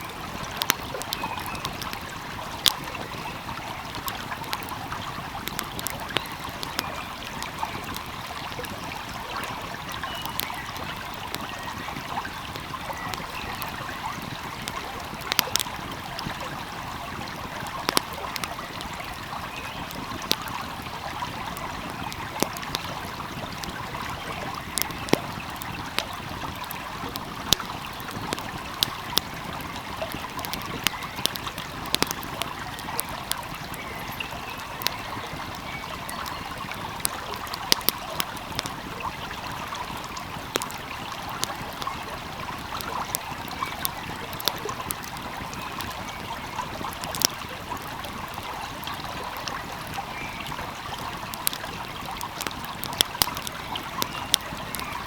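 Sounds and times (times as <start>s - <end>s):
stream rushing and trickling: 0.0s - 55.0s
wood fire crackling: 0.0s - 55.0s.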